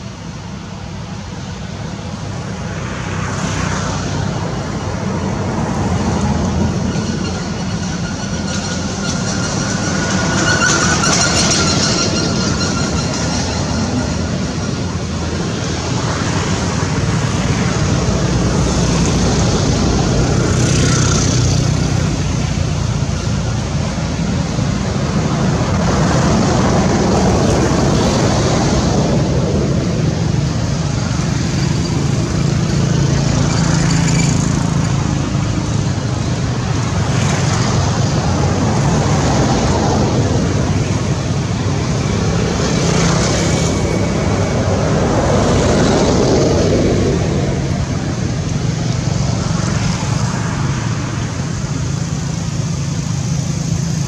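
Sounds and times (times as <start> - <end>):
steady traffic engine hum: 0.0 - 54.0
vehicles passing: 0.0 - 54.0.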